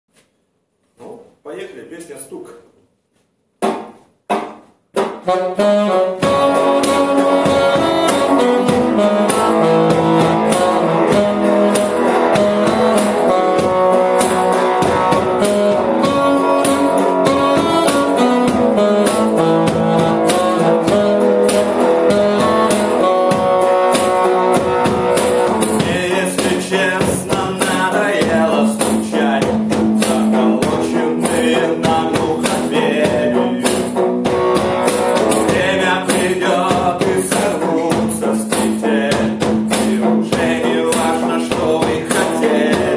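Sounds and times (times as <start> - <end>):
band music with drums and guitar: 3.6 - 42.9.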